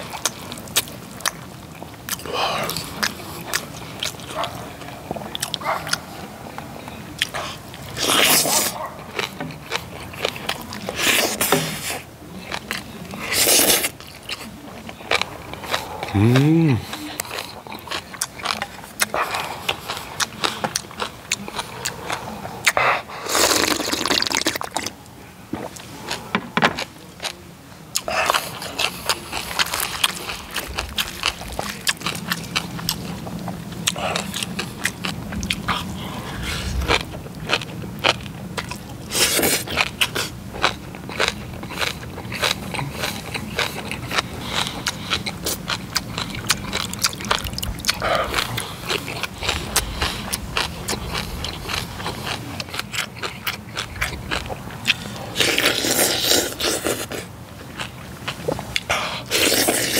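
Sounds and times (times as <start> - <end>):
close chewing and mouth sounds: 0.0 - 59.9.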